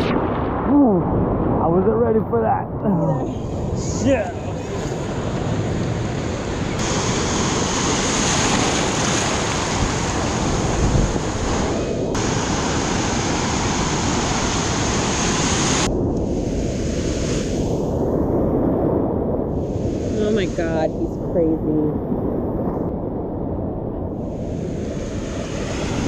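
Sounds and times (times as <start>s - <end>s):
wind on microphone: 0.0s - 26.0s
ocean surf breaking: 2.8s - 22.9s, 24.1s - 26.0s.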